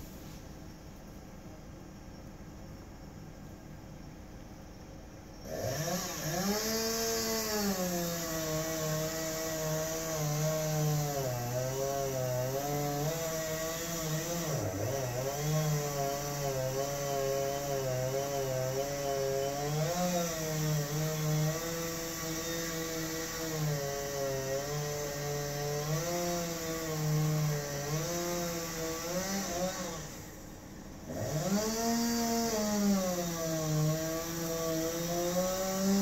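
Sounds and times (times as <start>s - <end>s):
chainsaw cutting: 5.4s - 36.0s.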